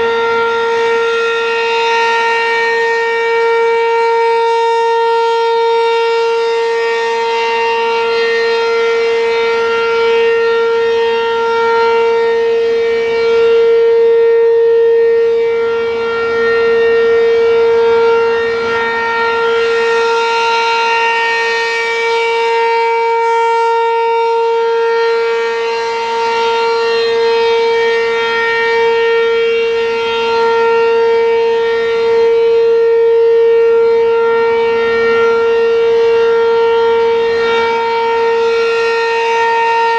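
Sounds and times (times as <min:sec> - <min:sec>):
siren steady alert tone: 0:00.0 - 0:39.9.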